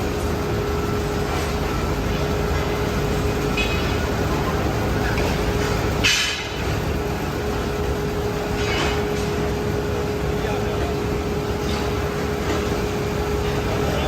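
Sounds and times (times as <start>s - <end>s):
factory machinery hum: 0.0s - 14.0s.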